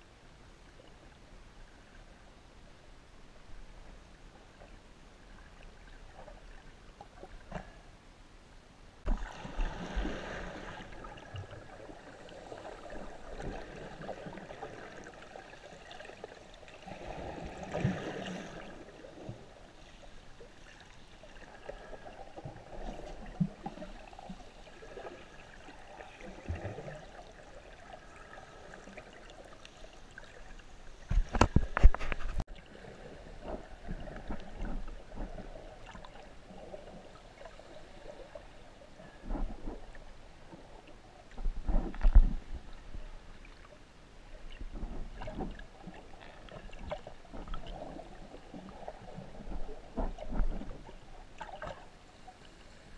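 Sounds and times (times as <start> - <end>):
muffled underwater sloshing: 9.0 - 52.9.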